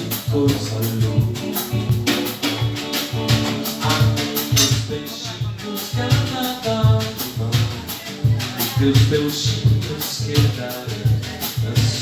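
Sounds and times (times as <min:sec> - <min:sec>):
bossa nova with guitar and drums: 0:00.0 - 0:12.0.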